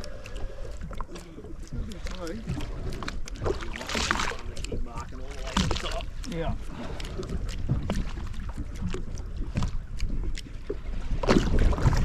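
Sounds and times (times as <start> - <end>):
water slapping against boat hull: 0.0 - 12.0
wind on microphone: 0.8 - 12.0.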